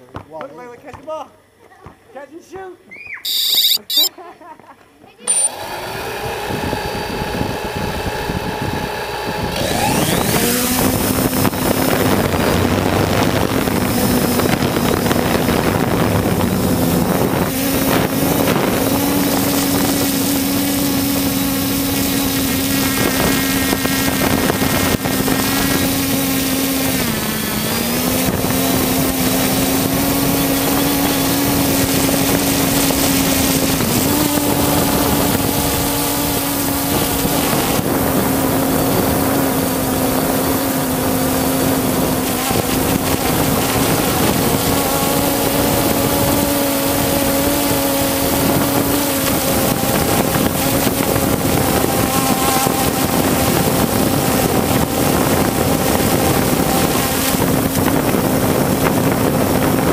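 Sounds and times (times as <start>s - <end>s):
drone motors whining: 3.2s - 4.1s, 5.3s - 59.9s
wind noise on microphone: 5.8s - 59.9s.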